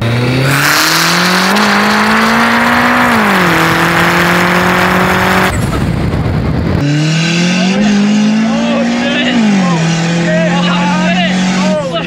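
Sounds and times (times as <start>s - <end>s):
turbocharged car engine revving: 0.0s - 12.0s.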